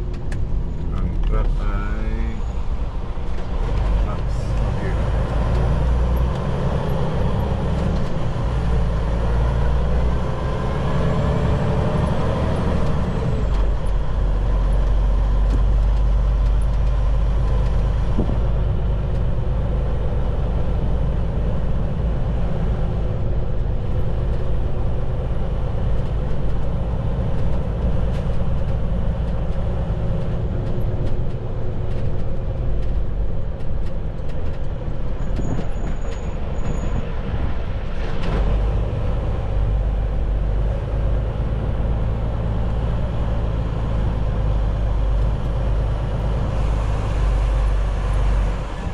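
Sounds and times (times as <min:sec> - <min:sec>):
truck engine rumble in cab: 0:00.0 - 0:48.9.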